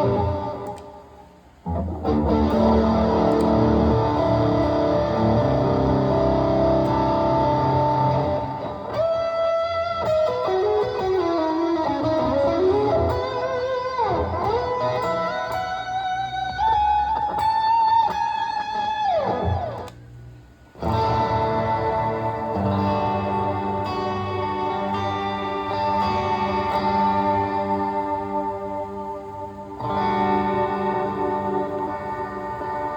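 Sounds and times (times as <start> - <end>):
electric guitar chords and lead: 0.0 - 20.0, 20.6 - 32.9.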